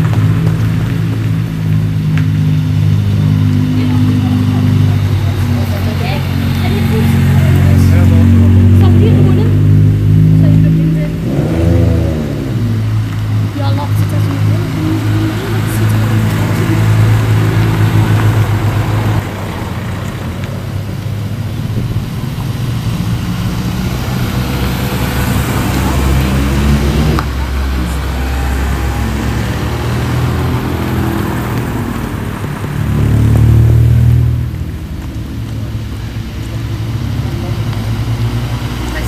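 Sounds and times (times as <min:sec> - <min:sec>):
cars driving slowly past: 0:00.0 - 0:39.0.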